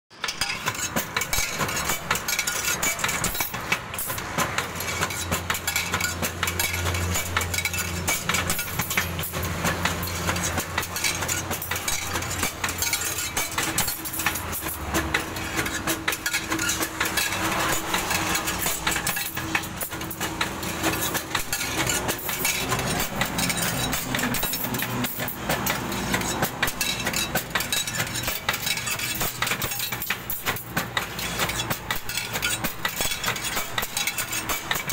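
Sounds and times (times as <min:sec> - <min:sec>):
metallic clinks and knocks: 0:00.1 - 0:34.9.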